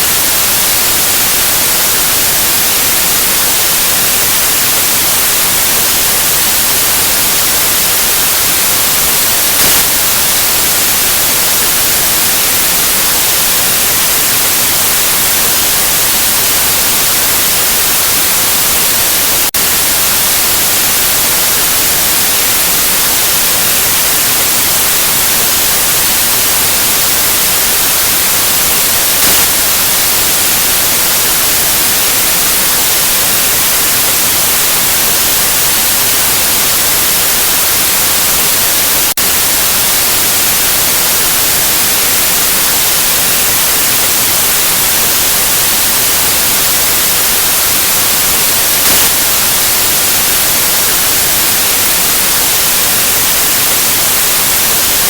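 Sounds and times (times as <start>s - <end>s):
electronic white noise hiss: 0.0s - 55.0s.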